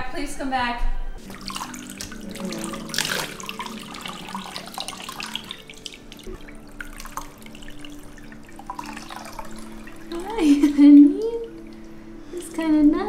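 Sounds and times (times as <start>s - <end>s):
water pouring and splashing: 1.2s - 12.9s.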